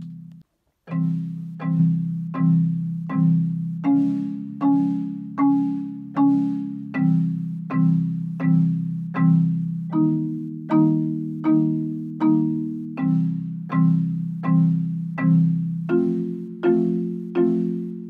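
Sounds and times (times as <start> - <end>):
marimba chords: 0.0 - 18.0.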